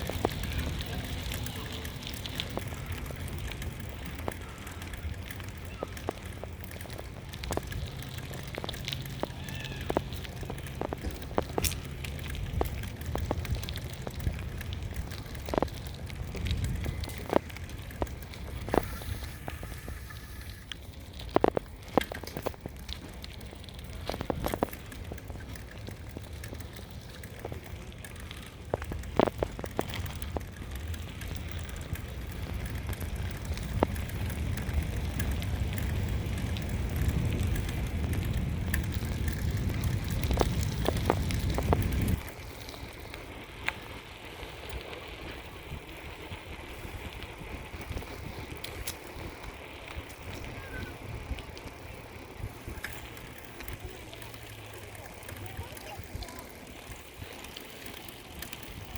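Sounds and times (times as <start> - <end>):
wind rumbling on microphone: 0.0 - 54.0
bicycle clicks and knocks: 0.0 - 58.9.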